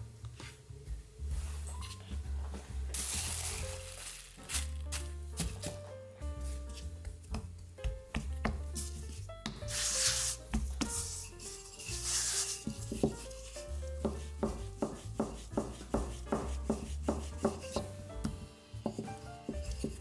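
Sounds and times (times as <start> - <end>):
soft background music: 0.0 - 20.0
rubbing and scraping on wood: 3.0 - 20.0.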